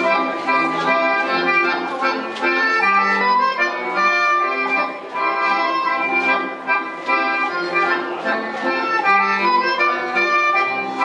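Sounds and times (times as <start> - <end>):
accordion folk dance music: 0.0 - 11.0.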